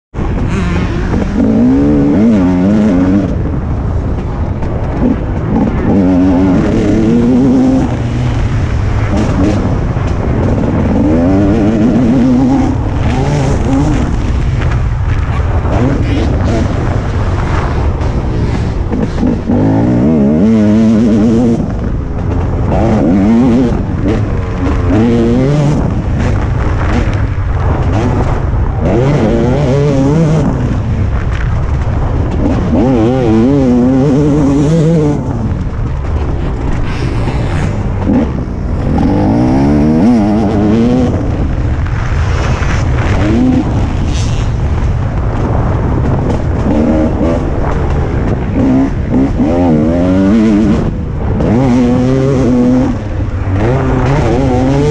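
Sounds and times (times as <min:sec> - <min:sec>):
two-stroke motorcycle engine revving: 0:00.2 - 0:54.9.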